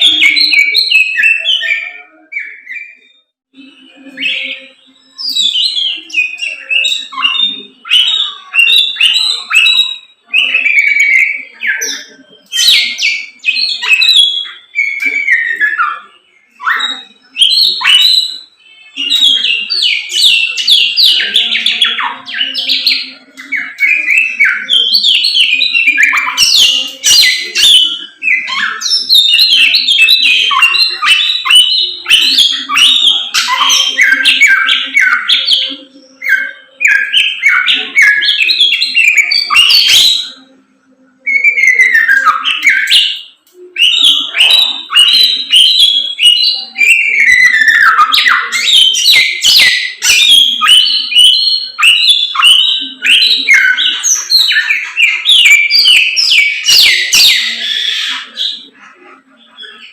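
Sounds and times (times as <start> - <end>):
songbird chirping and whistling: 0.0 - 59.9.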